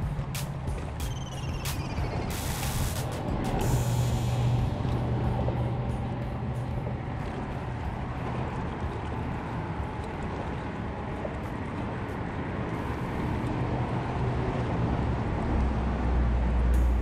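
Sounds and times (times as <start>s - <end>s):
traffic rumble on bridge: 0.0s - 17.0s
vehicle passing with deep rumble: 0.0s - 17.0s.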